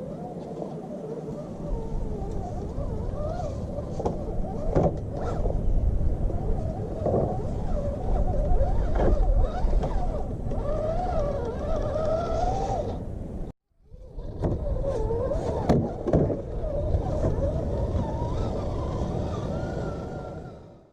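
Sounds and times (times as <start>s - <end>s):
electric motor and gears whining: 0.0s - 20.9s.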